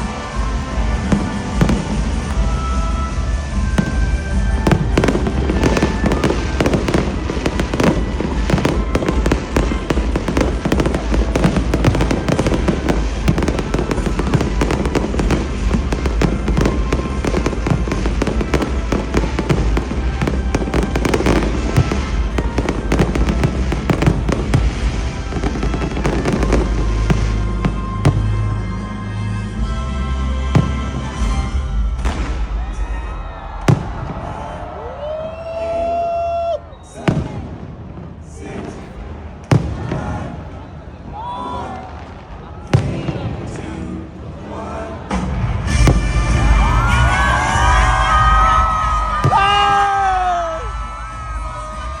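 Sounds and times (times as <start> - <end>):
music playing: 0.0 - 35.6, 42.7 - 52.0
fireworks bangs and crackles: 0.0 - 36.0, 36.8 - 52.0.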